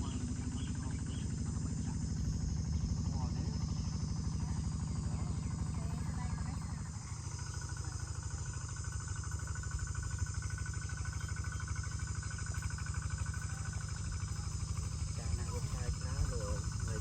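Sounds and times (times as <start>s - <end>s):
crickets and insects chirping: 0.0s - 17.0s
low pulsing rumble: 0.0s - 17.0s.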